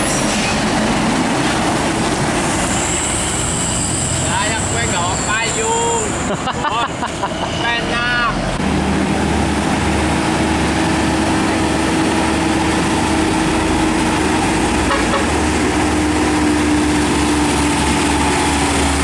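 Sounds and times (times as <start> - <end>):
truck diesel engine droning: 0.6 - 19.0.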